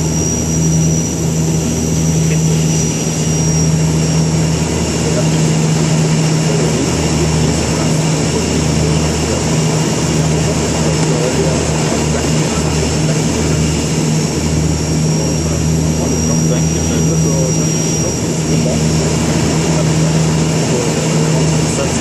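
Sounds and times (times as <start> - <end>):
faint high whine: 0.0 - 22.0
turboprop engines droning: 0.0 - 22.0.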